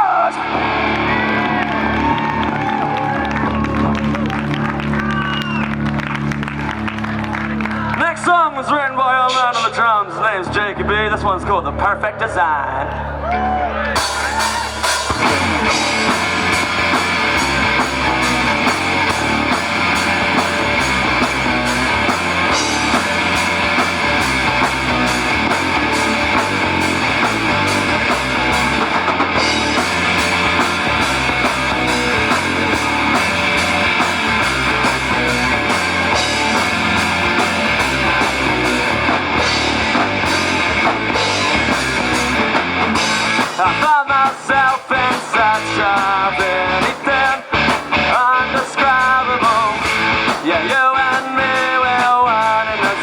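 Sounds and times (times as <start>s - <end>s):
rock band playing: 0.0s - 53.0s.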